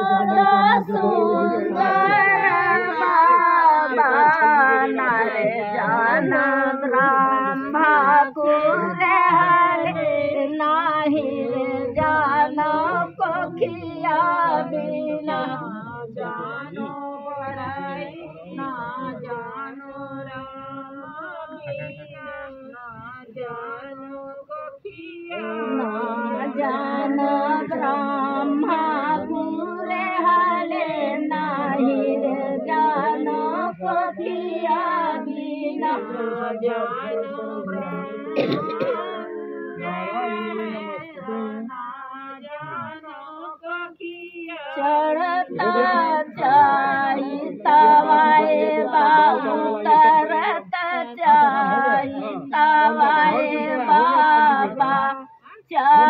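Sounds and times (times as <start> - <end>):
women singing without instruments: 0.0 - 56.0.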